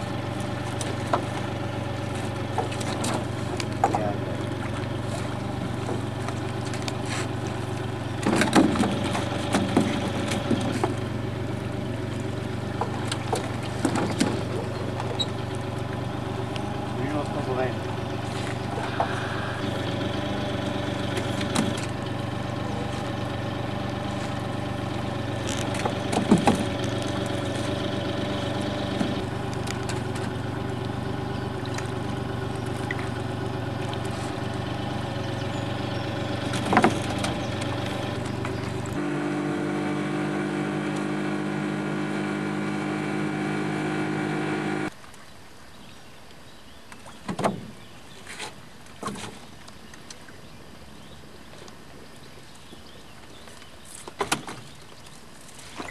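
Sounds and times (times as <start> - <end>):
boat motor running: 0.0 - 44.9.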